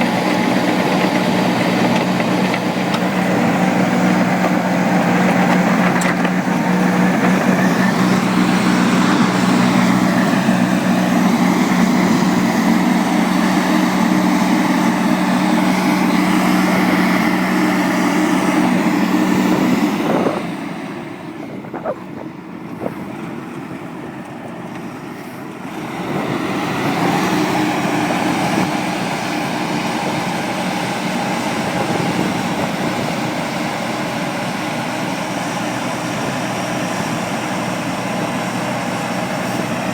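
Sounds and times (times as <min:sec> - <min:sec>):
farm machinery diesel engine: 0:00.0 - 0:39.9.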